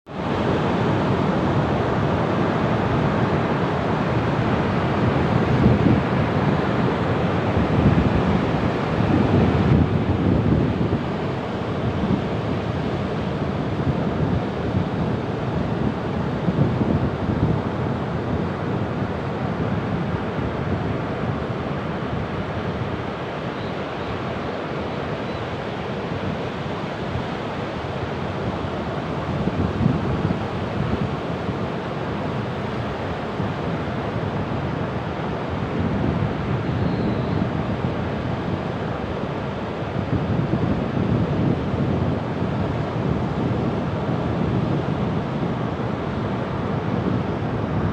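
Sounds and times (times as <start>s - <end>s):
ocean surf: 0.1s - 47.9s.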